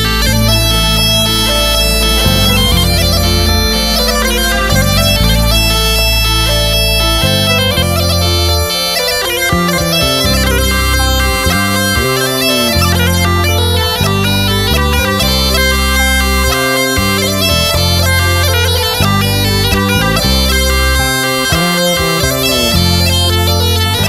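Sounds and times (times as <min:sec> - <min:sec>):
bagpipe melody: 0:00.0 - 0:24.0
low bass notes: 0:00.0 - 0:24.0.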